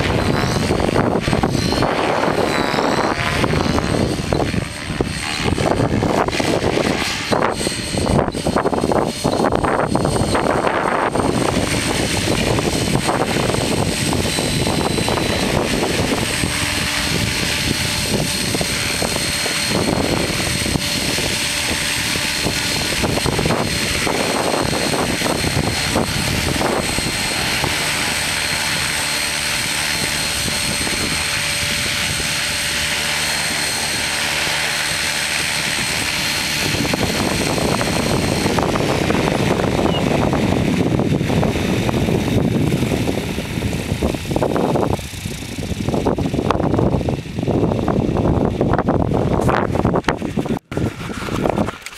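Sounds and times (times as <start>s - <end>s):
helicopter rotor blades rushing: 0.0s - 51.9s
high motor whine: 0.0s - 51.9s
wind buffeting microphone: 0.0s - 51.9s.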